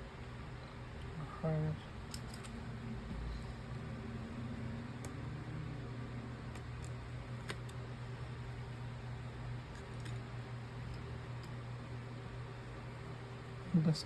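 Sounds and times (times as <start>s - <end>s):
bench machine hum: 0.0s - 14.0s.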